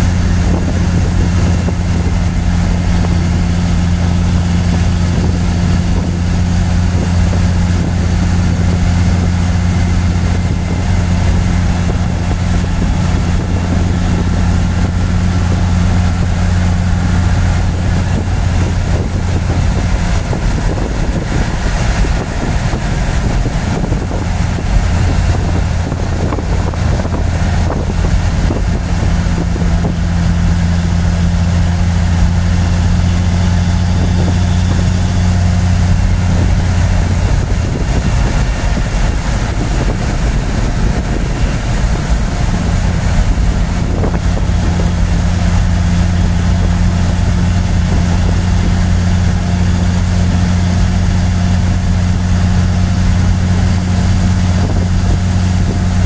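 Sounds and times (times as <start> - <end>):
diesel engine drone: 0.0 - 56.0
road and wind noise: 0.0 - 56.0.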